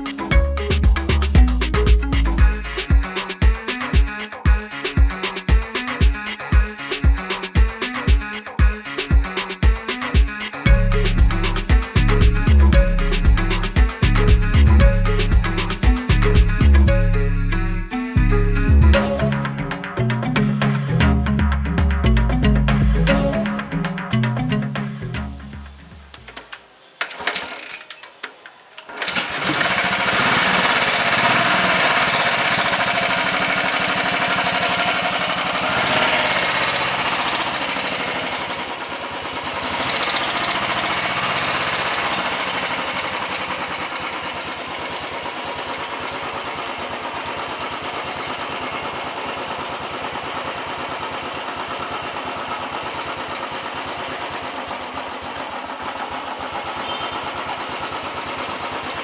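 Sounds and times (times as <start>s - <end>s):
motorcycle engine revving and idling: 0.0s - 17.0s, 28.8s - 59.0s.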